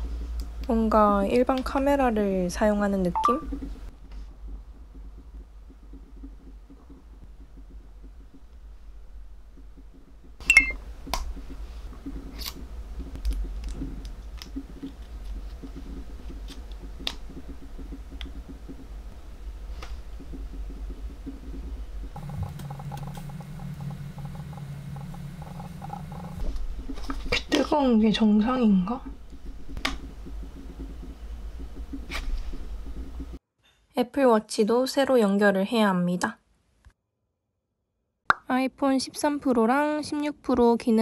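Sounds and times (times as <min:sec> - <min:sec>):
low hum: 0:00.0 - 0:33.4.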